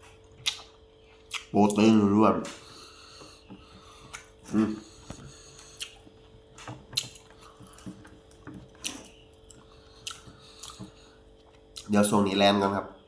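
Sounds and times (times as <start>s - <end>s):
wet chewing: 0.0s - 1.8s, 2.5s - 11.9s.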